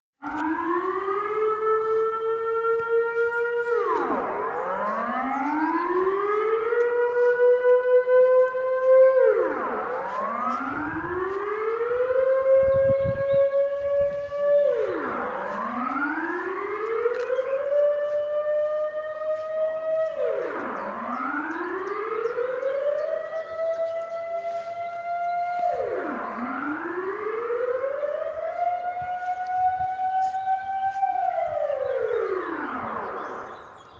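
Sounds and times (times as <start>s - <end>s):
air raid siren wailing: 0.2s - 33.9s.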